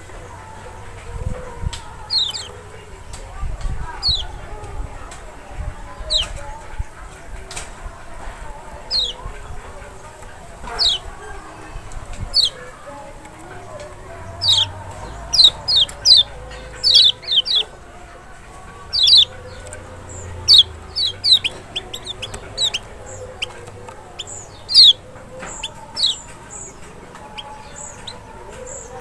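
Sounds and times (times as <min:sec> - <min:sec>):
faint high bird notes: 0:00.0 - 0:05.1, 0:08.6 - 0:29.0
bird chirping calls: 0:00.0 - 0:29.0.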